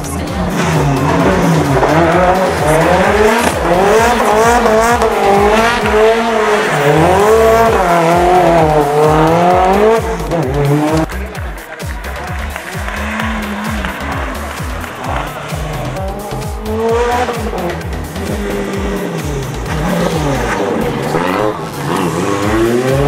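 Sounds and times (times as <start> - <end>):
car engine revving hard: 0.2 - 11.2, 12.2 - 23.0.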